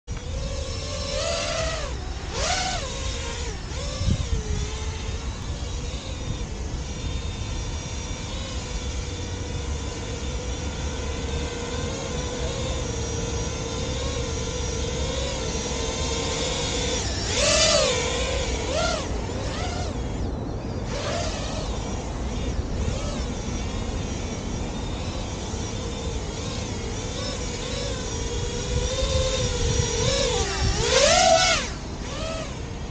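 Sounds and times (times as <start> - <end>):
drone propellers buzzing whine: 0.1 - 32.9.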